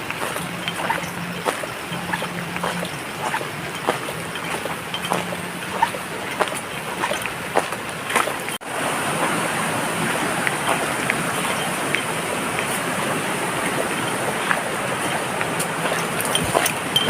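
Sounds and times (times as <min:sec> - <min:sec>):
small water splashes: 0:00.0 - 0:17.0
stream water rushing: 0:00.0 - 0:17.0.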